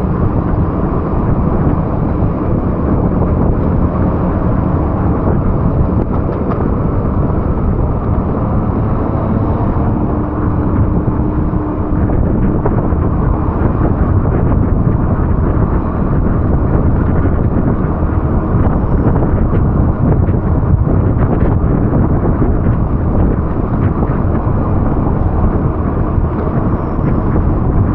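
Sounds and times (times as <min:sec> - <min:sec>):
road traffic: 0:00.0 - 0:27.9
wind buffeting microphone: 0:00.0 - 0:27.9.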